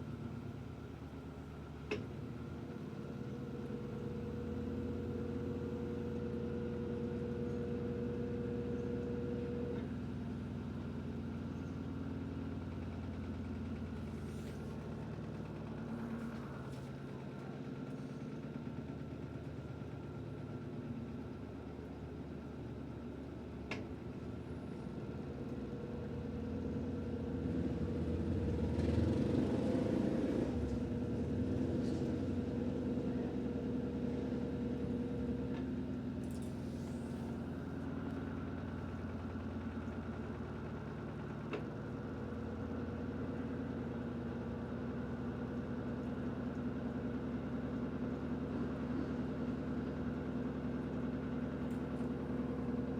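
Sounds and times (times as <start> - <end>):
washing machine spin cycle: 0.0 - 52.9.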